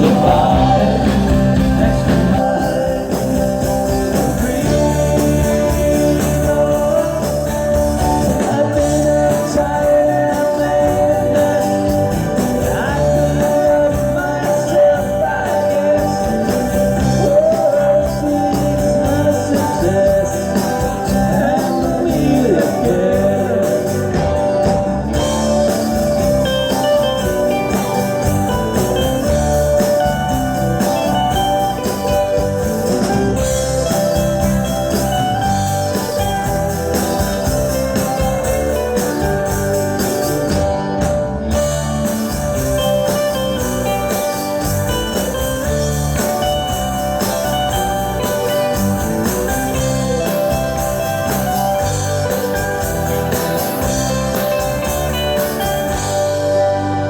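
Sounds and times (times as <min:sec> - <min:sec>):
electric guitar: 0:00.0 - 0:57.0
live rock band playing: 0:00.0 - 0:57.0
steady drum beat: 0:00.0 - 0:57.0.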